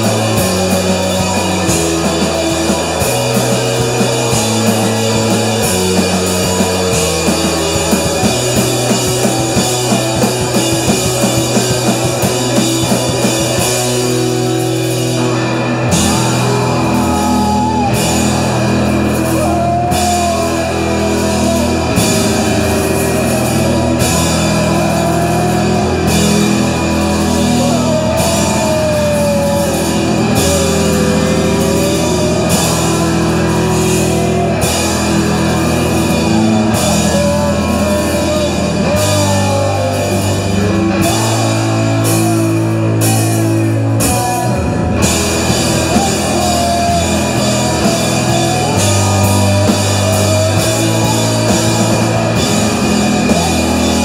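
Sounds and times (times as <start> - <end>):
distorted electric guitar: 0.0 - 54.0
drum kit: 0.0 - 54.0
electric bass: 0.0 - 54.0
live rock band playing: 0.0 - 54.0.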